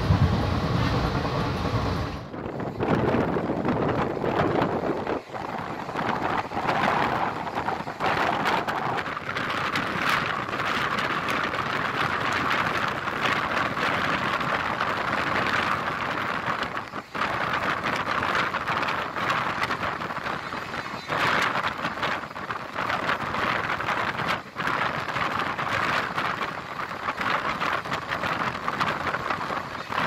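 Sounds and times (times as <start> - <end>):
train wheels on rails: 0.0 - 30.0
wind: 0.0 - 30.0.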